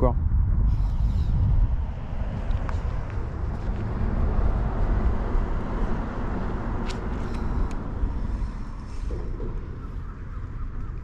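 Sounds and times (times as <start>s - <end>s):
urban background rumble: 0.0s - 11.0s.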